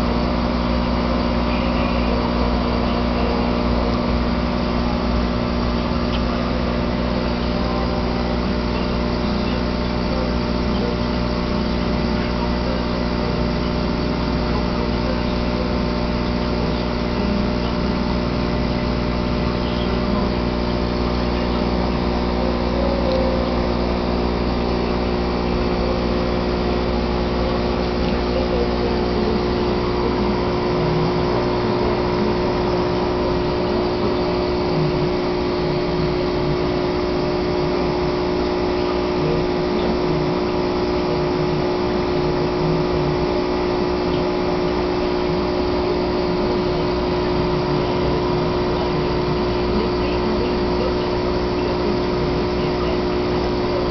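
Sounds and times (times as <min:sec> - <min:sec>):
aquarium pump humming: 0:00.0 - 0:53.9.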